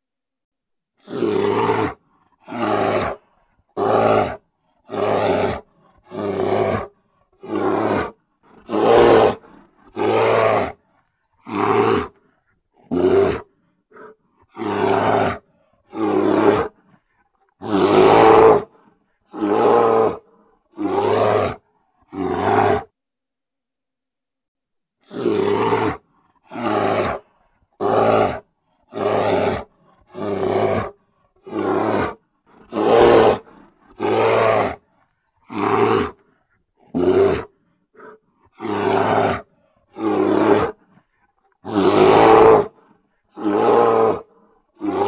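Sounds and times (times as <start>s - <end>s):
bear growling: 1.0s - 22.9s, 25.0s - 45.0s.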